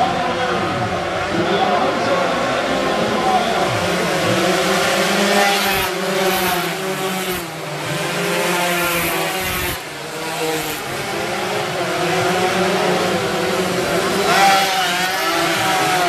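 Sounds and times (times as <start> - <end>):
motorcycles revving past: 0.0 - 16.0.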